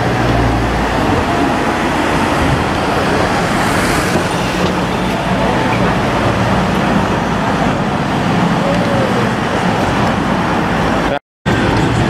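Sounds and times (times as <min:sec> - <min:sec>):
bus passing: 0:00.0 - 0:12.0
car engine humming: 0:00.0 - 0:12.0.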